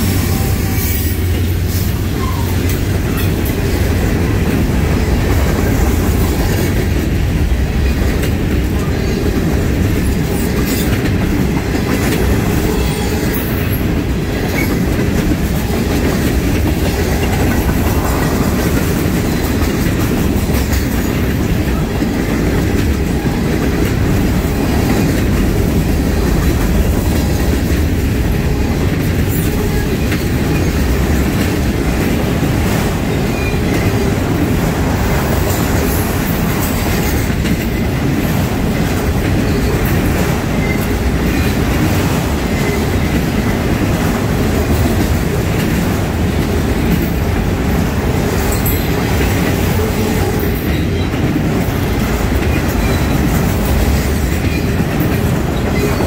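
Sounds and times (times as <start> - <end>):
diesel locomotive engines: 0.0 - 56.0
wheels clicking over rail joints: 0.0 - 56.0.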